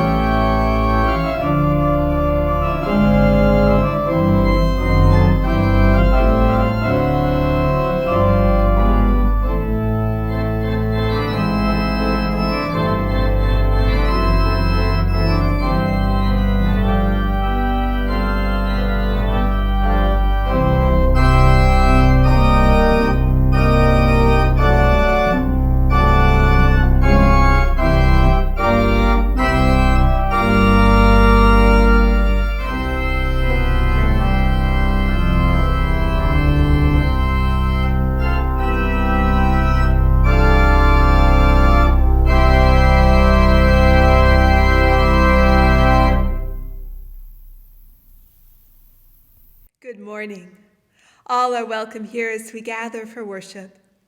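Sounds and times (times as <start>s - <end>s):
pipe organ playing chords: 0.0s - 49.7s.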